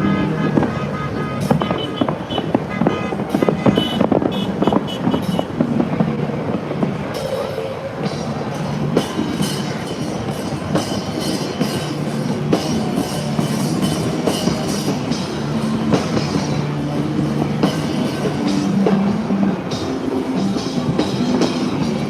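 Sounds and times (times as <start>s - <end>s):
rock music with drums: 3.2s - 22.0s.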